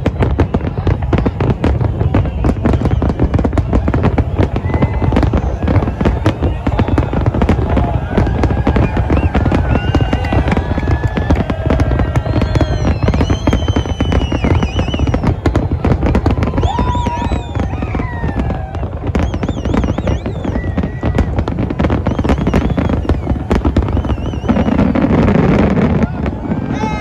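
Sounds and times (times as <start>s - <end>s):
fireworks bangs and crackles: 0.0s - 27.0s
fireworks whistling: 0.0s - 27.0s.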